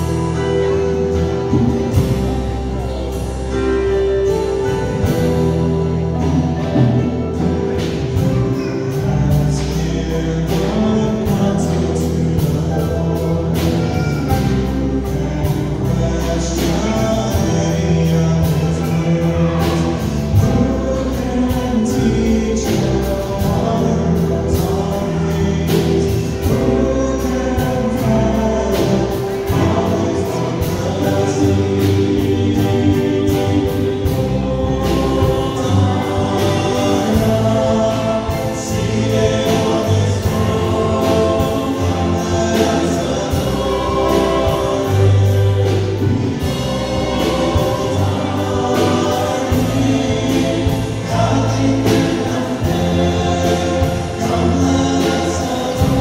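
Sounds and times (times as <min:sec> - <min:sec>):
congregation singing: 0:00.0 - 0:56.0
worship band with acoustic guitar: 0:00.0 - 0:56.0.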